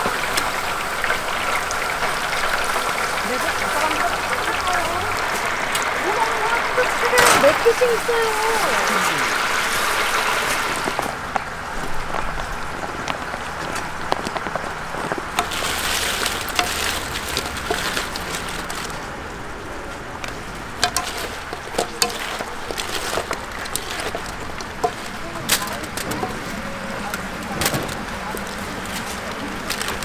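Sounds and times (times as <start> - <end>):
oil sizzling: 0.0 - 30.0.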